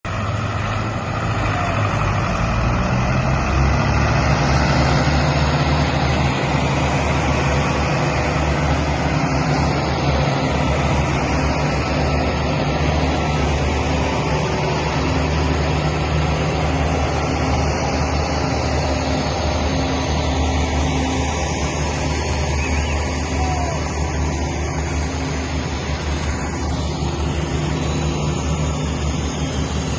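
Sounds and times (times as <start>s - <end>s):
broad rushing noise: 0.1s - 29.9s
vehicle engine humming: 0.1s - 29.9s.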